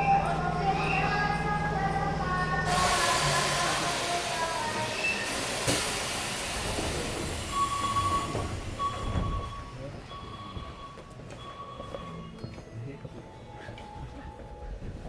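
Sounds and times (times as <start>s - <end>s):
train car rumbling: 0.0s - 12.4s.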